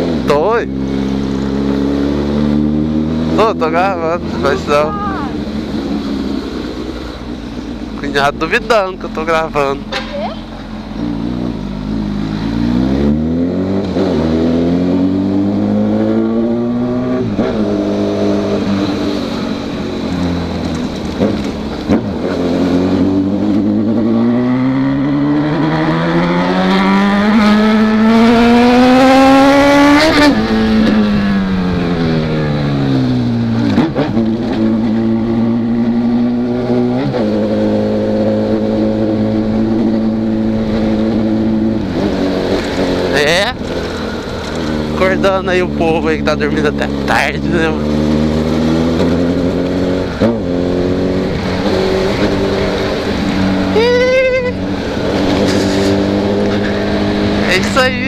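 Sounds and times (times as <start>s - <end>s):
motorcycle engine revving through gears: 0.0s - 4.8s, 10.6s - 53.8s, 54.6s - 58.0s.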